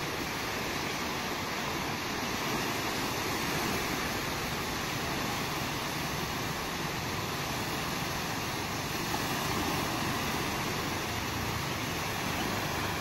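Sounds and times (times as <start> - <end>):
waves washing on a beach: 0.0 - 13.0.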